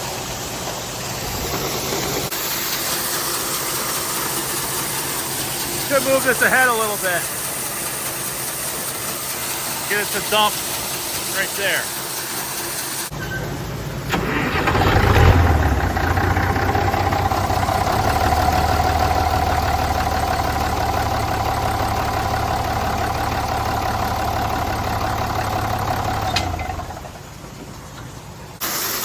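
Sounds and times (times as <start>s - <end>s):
tractor engine running: 0.6s - 28.6s.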